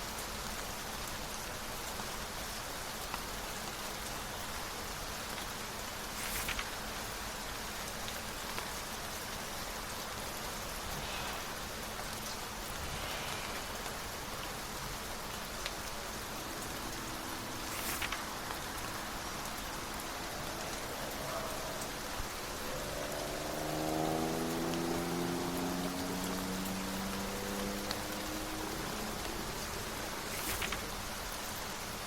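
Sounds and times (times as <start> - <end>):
steady rain on a surface: 0.0 - 32.0.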